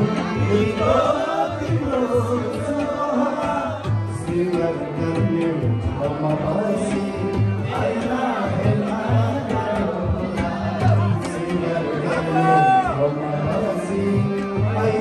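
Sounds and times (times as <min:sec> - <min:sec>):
harmonium playing: 0:00.0 - 0:15.0
man singing: 0:00.0 - 0:15.0
tabla drumming: 0:00.0 - 0:15.0.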